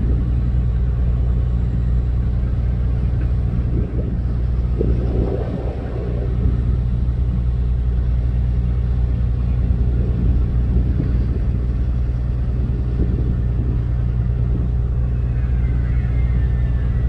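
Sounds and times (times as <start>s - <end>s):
ship diesel machinery drone: 0.0s - 17.0s.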